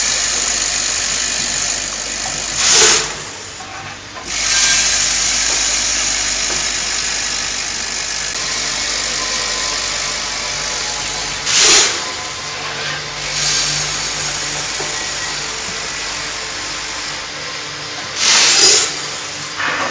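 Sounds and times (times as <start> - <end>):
loud bursts of noise: 0.0 - 3.5, 4.3 - 17.0, 18.1 - 19.8
filling machine running: 0.0 - 19.9.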